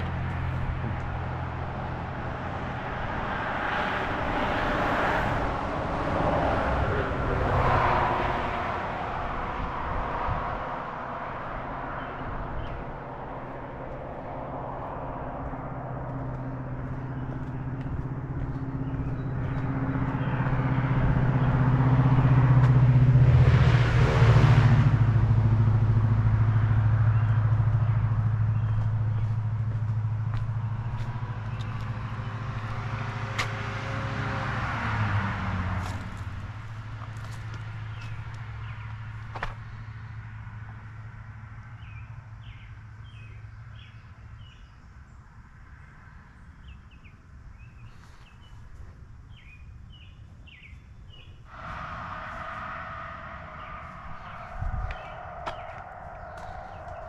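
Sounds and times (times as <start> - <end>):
low engine hum: 0.0 - 57.0
vehicle engine and tyre noise: 0.0 - 57.0.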